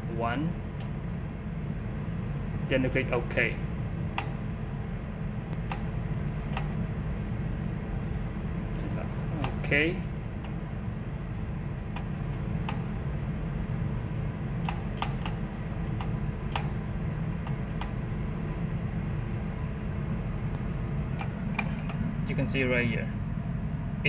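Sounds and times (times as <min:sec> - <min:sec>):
machinery and ventilation hum: 0:00.0 - 0:24.0.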